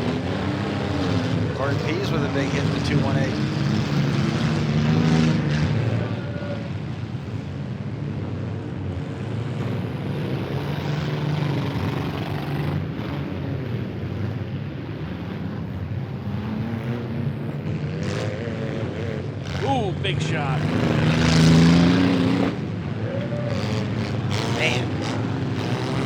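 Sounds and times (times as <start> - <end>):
vehicle engines revving: 0.0 - 26.0.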